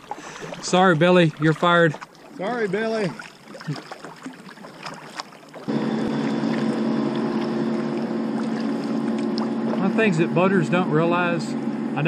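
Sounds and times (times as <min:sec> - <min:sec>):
paddle splashing in water: 0:00.0 - 0:10.3
motorboat engine droning: 0:00.0 - 0:12.0.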